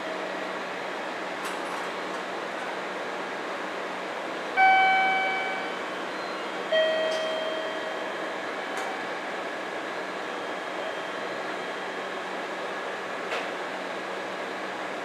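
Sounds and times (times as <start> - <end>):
electric train equipment hum: 0.0 - 15.0.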